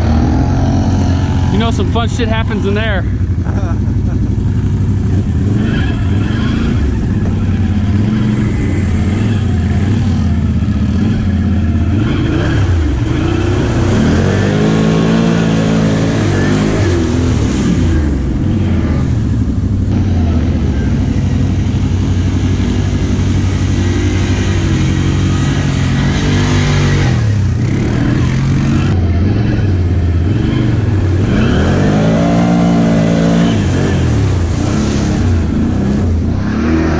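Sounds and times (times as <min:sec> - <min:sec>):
engine revving: 0:00.0 - 0:36.9.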